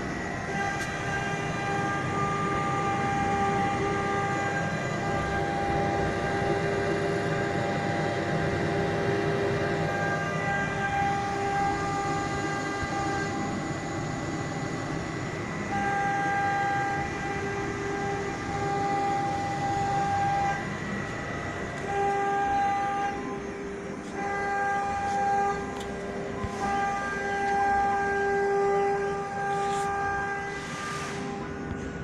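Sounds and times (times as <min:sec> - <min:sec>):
milling machine motors whining: 0:00.0 - 0:32.0
steady mechanical noise: 0:00.0 - 0:32.0.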